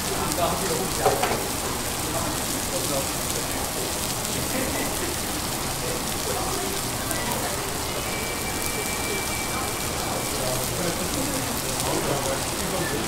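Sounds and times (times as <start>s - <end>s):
faint voices: 0.0s - 13.0s
food sizzling on a griddle: 0.0s - 13.0s.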